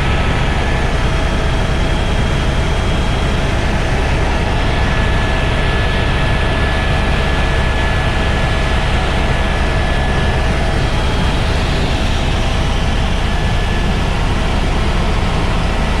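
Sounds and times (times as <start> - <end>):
helicopter engine and rotors: 0.0 - 16.0.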